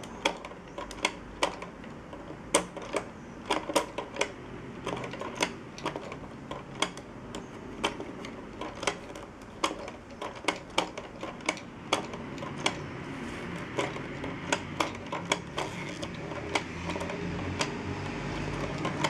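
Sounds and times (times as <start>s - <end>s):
plastic lever mechanism clicking: 0.0s - 12.9s, 13.5s - 19.0s.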